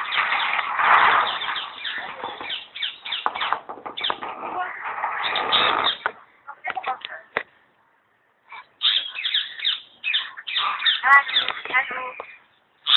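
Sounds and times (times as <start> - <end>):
birds calling: 0.0 - 7.0, 8.5 - 12.9.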